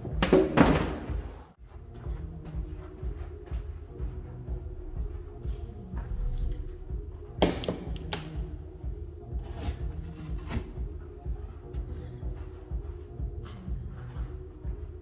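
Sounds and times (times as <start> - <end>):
background music with low beat: 0.0 - 15.0.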